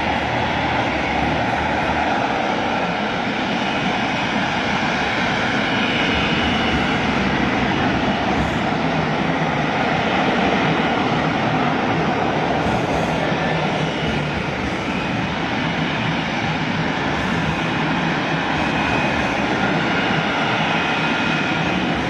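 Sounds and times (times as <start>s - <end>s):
fighter jet engine running: 0.0s - 22.0s.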